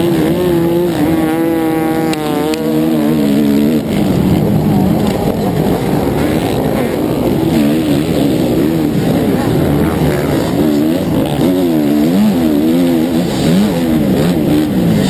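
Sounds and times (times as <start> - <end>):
motocross engine slowing: 0.0 - 15.0
other dirt bike engines: 0.0 - 15.0.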